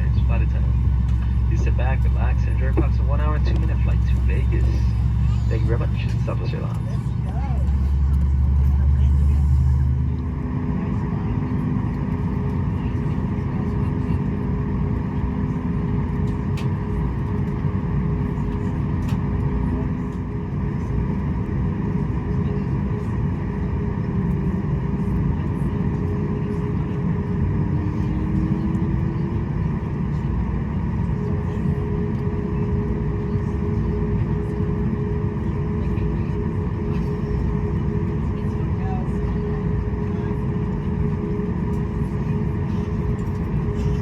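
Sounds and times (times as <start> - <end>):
air conditioning blowing: 0.0 - 44.0
aircraft cabin rumble: 0.0 - 44.0
steady hum tones: 0.0 - 44.0.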